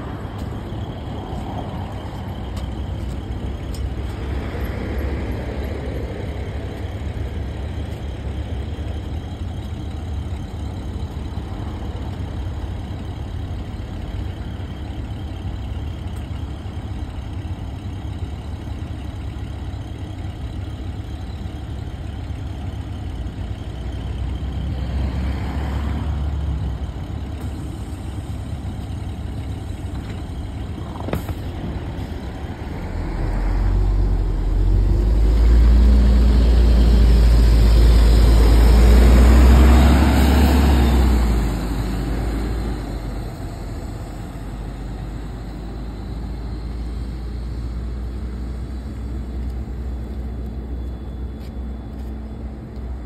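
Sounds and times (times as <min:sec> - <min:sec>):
bus engine revving: 0:00.0 - 0:53.0.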